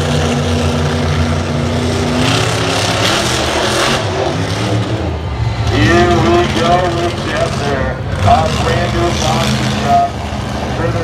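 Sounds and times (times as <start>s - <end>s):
monster truck engine running: 0.0s - 11.0s.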